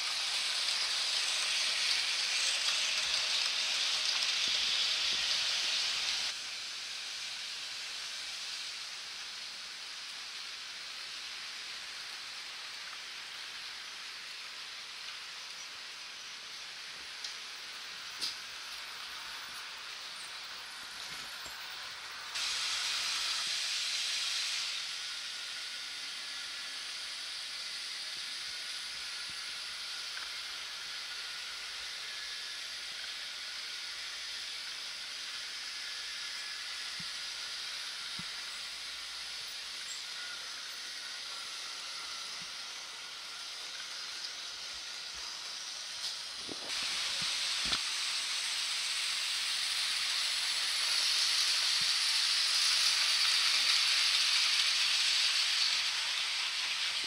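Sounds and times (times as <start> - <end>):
model train wheels rolling: 0.0 - 57.0.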